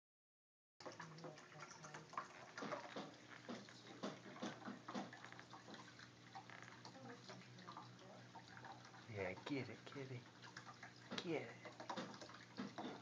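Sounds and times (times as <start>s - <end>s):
water drips and splashes: 0.8s - 13.0s
water fountain trickling: 0.8s - 13.0s.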